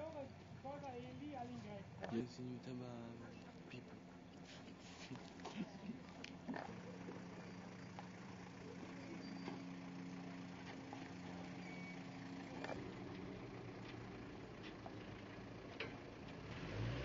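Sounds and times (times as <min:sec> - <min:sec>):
faint engine idling: 0:00.0 - 0:17.0.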